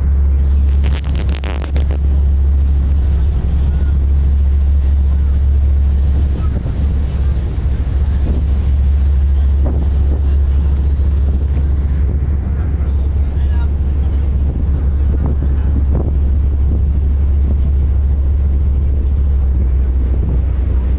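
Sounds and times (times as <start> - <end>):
ferry engine drone: 0.0 - 20.9
wind buffeting microphone: 0.0 - 20.9.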